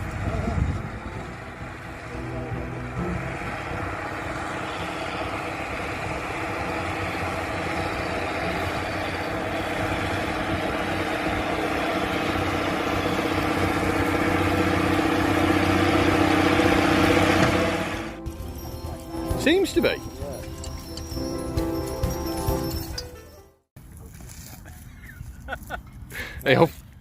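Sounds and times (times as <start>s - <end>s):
tractor engine running: 0.0s - 23.7s.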